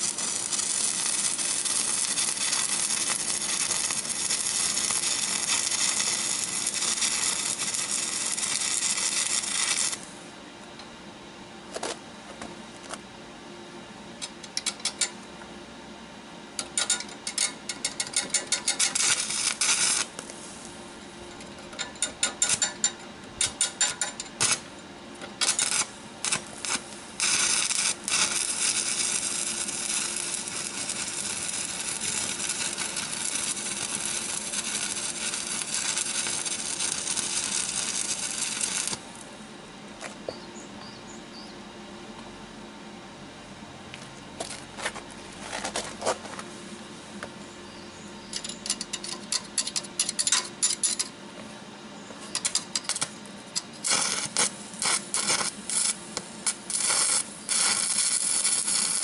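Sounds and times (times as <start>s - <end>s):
arc welder crackling and sizzling: 0.0s - 11.0s, 11.7s - 13.1s, 14.0s - 40.6s, 43.9s - 59.0s.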